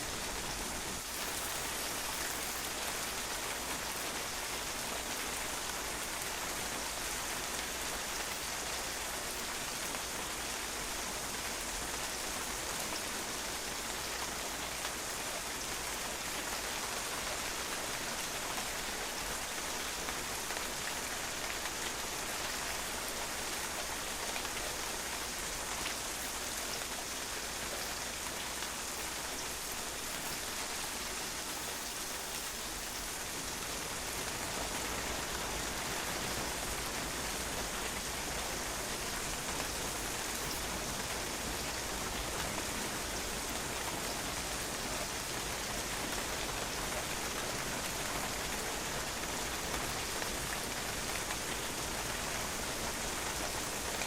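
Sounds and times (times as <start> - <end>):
rain spattering on patio: 0.0 - 54.0.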